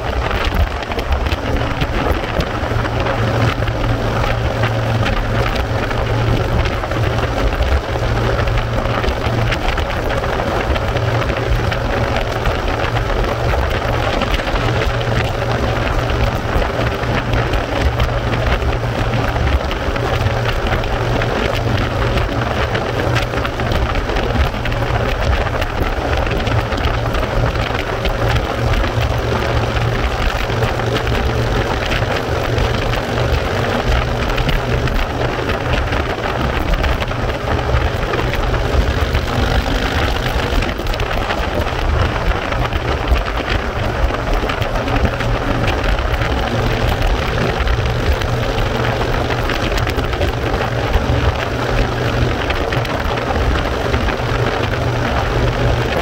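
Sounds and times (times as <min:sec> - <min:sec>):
deep rumble: 0:00.0 - 0:56.0
road noise: 0:00.0 - 0:56.0
wind on microphone: 0:00.0 - 0:56.0.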